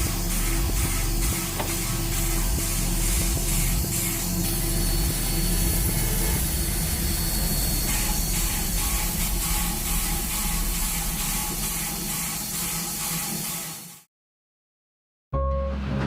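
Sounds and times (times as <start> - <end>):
steam locomotive hissing: 0.0 - 14.0.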